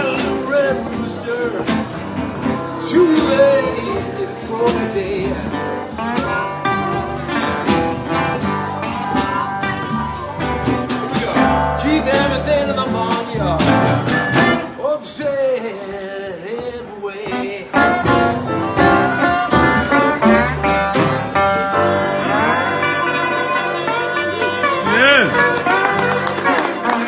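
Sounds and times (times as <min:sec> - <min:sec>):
harmonica lead bending notes: 0:00.0 - 0:14.8, 0:17.2 - 0:27.0
acoustic blues band playing: 0:00.0 - 0:27.0.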